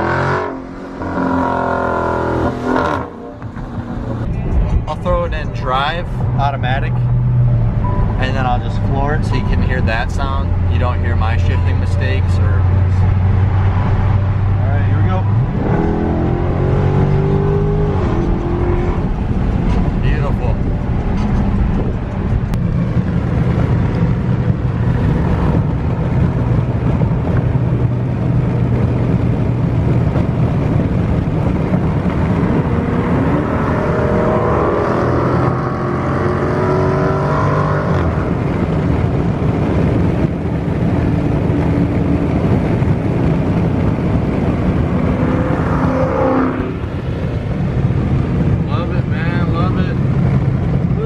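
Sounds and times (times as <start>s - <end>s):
loud car engine revving: 0.0s - 4.3s, 6.0s - 51.0s.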